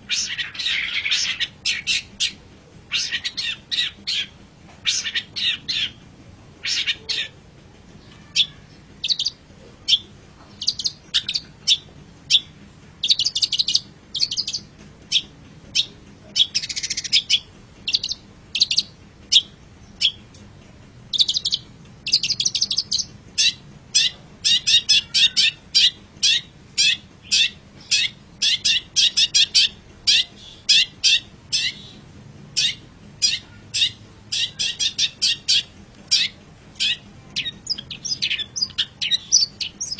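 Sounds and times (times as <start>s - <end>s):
bird chattering song: 0.1s - 6.0s, 6.6s - 7.4s, 8.0s - 20.3s, 21.1s - 32.0s, 32.6s - 39.9s.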